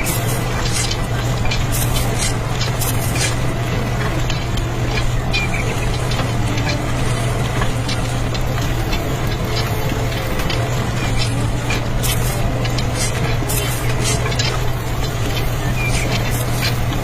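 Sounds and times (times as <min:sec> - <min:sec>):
light clicks and rattles: 0:00.0 - 0:17.0
small motor humming: 0:00.0 - 0:17.0.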